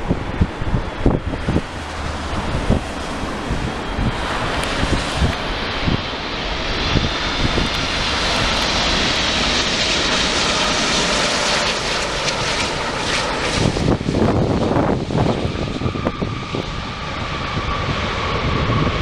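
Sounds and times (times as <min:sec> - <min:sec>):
jet engines running: 0:00.0 - 0:19.0
wind buffeting microphone: 0:00.0 - 0:19.0.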